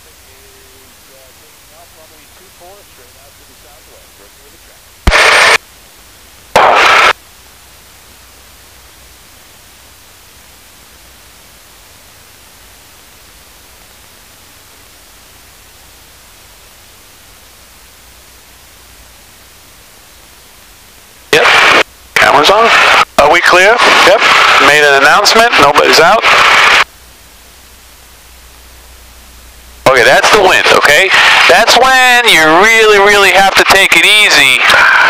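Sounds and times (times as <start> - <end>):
intercom static hiss: 0.0 - 5.6, 6.5 - 7.2, 8.0 - 35.0.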